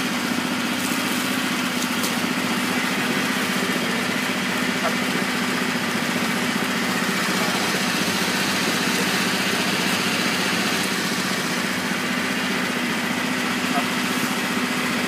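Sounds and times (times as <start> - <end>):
motor humming: 0.0 - 15.0
water churning and splashing: 0.6 - 15.0.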